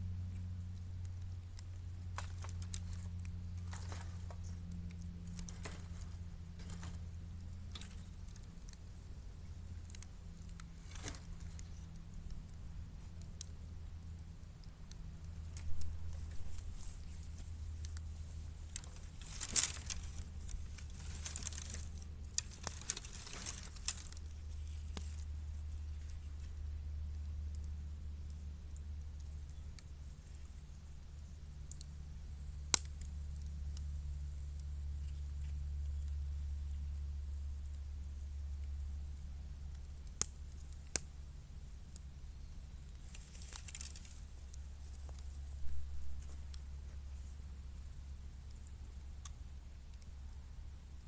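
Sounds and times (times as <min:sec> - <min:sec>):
fire crackling and popping: 0:00.0 - 0:51.0
steady low hum: 0:00.0 - 0:51.0.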